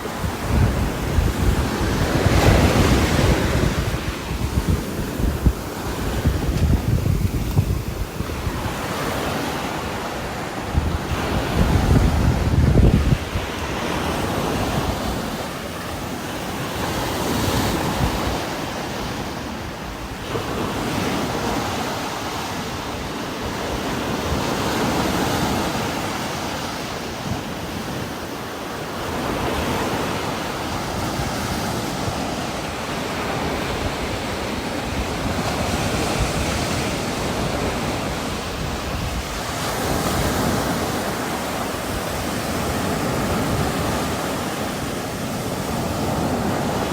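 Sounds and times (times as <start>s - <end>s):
strong gusting wind: 0.0s - 46.9s.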